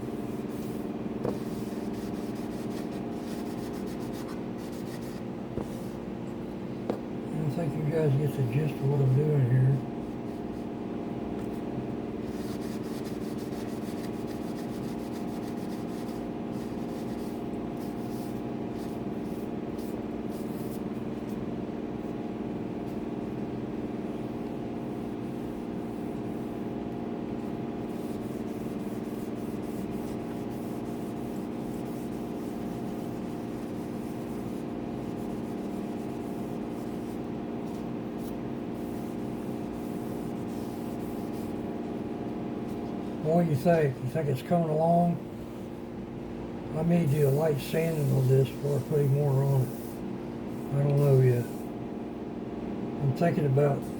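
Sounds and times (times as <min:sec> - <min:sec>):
steady hum: 0:00.0 - 0:53.9.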